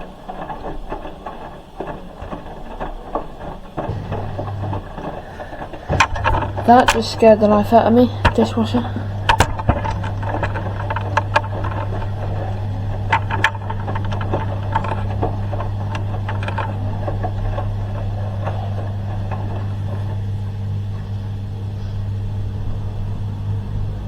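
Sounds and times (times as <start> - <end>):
light clicks and knocks: 0.0 - 22.3
low machine hum: 0.0 - 24.0.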